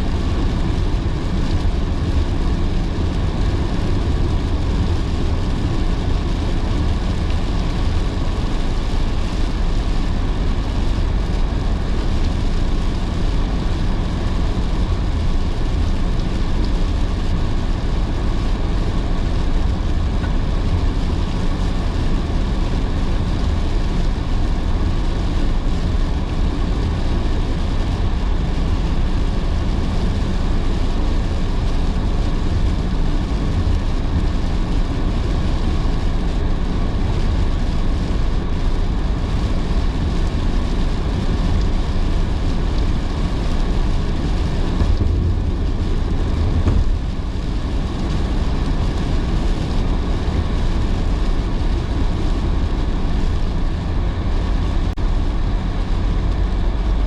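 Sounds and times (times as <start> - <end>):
rain and spray hissing: 0.0 - 57.0
road and tyre rumble: 0.0 - 57.0.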